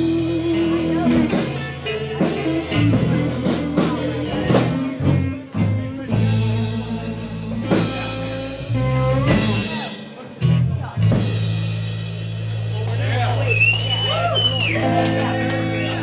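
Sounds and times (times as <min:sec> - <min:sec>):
bass guitar: 0:00.0 - 0:16.0
drum kit: 0:00.0 - 0:16.0
electric guitar: 0:00.0 - 0:16.0.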